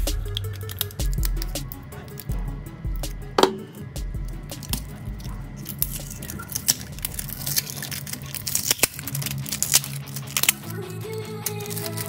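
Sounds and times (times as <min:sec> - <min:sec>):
plastic film crackling: 0:00.0 - 0:02.4, 0:03.6 - 0:12.0
faint background music: 0:00.0 - 0:12.0.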